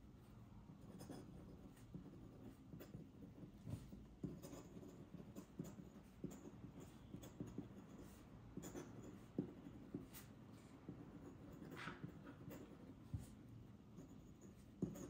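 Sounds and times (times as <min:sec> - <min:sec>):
pen nib scratching on paper: 0:00.7 - 0:15.0.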